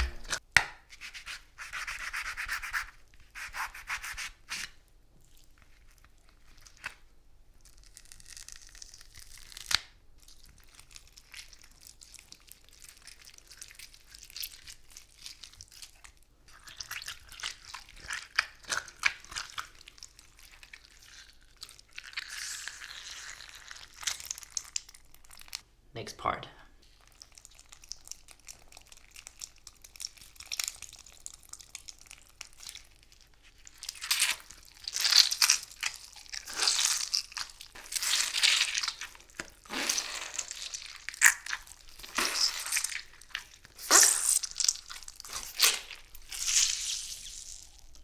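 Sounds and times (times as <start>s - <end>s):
fruit rubbed and torn: 0.0s - 4.8s, 7.6s - 25.6s, 26.8s - 48.0s.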